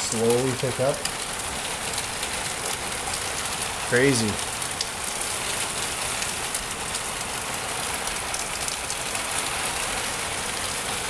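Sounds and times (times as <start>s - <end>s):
heavy rain: 0.0s - 11.0s
sharp raindrop hits: 0.0s - 11.0s.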